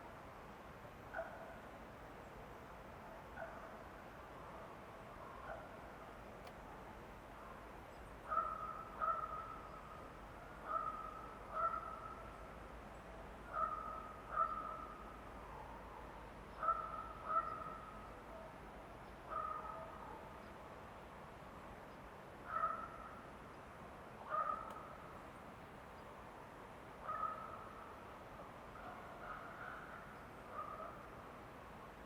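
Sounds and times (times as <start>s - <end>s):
faint forest hiss: 0.0s - 32.0s.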